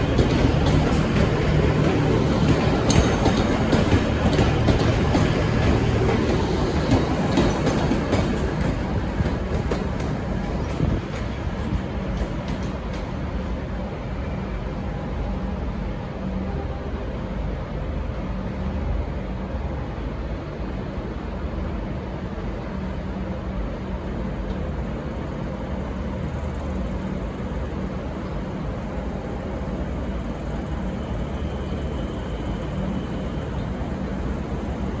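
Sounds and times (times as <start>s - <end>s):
diesel train engines rumbling: 0.0s - 35.0s.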